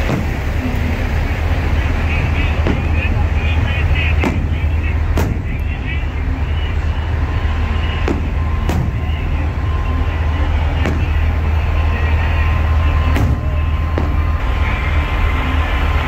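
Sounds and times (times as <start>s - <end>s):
diesel engines idling: 0.0s - 16.0s.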